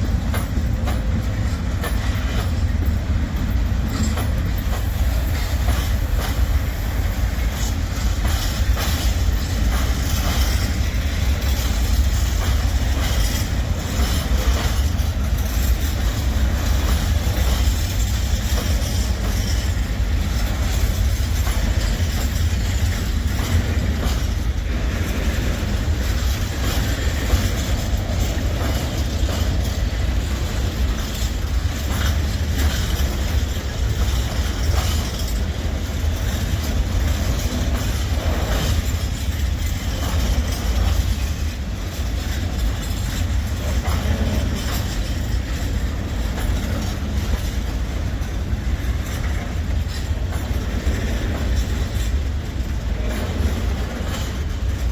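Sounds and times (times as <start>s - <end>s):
wagon wheels rumbling on rails: 0.0s - 54.9s.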